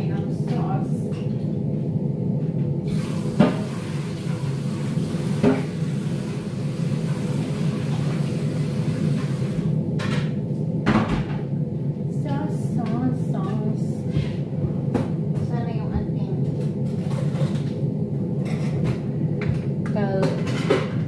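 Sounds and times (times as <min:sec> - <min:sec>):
range hood fan humming: 0:00.0 - 0:21.0.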